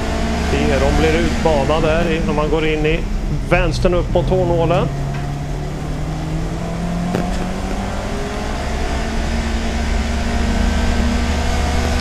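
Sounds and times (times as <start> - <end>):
race car engine accelerating: 0.0 - 12.0
road and wind rumble: 0.0 - 12.0.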